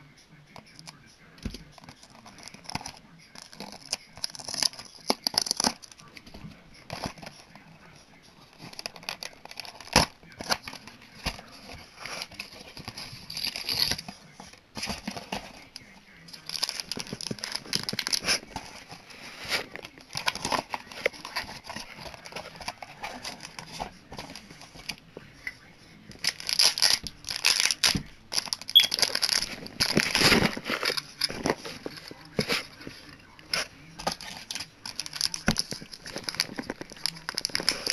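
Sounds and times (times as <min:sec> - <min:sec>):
packaging crinkling and rustling: 0:01.5 - 0:07.7, 0:08.4 - 0:25.1, 0:26.0 - 0:37.9.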